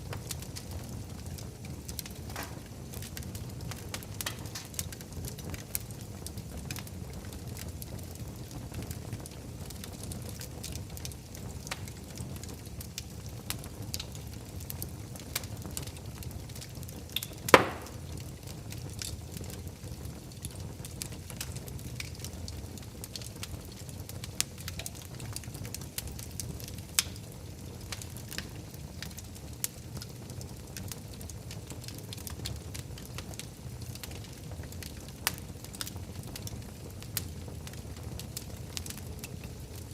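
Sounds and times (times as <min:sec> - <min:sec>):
fire crackles and pops: 0:00.0 - 0:39.9
wood fire rumbling: 0:00.0 - 0:39.9.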